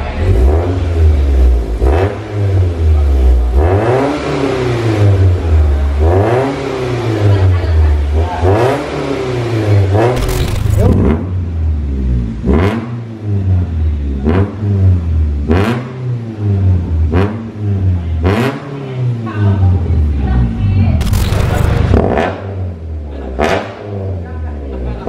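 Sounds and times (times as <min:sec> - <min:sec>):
car engine revving: 0:00.0 - 0:19.3, 0:20.0 - 0:25.0.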